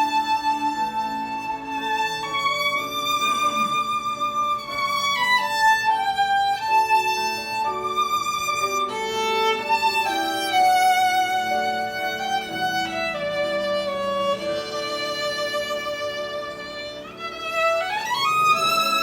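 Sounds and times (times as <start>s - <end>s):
violin playing slow melody: 0.0s - 19.0s.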